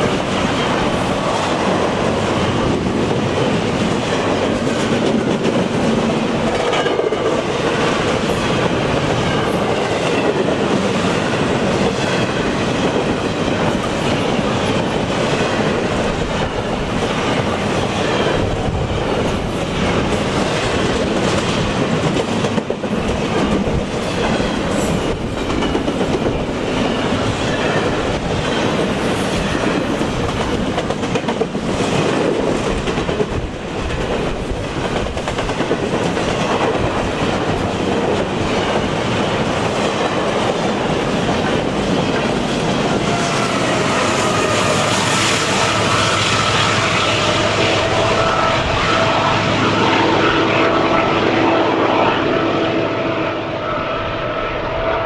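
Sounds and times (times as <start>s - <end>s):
train wheels on rails: 0.0s - 55.0s
wheels clickety-clack: 2.6s - 48.0s.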